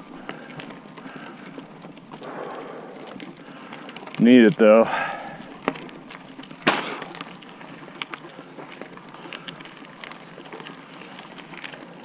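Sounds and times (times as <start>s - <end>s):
bike clicks and rattles: 0.0s - 12.0s
bike tyres rolling on dirt: 0.0s - 12.0s.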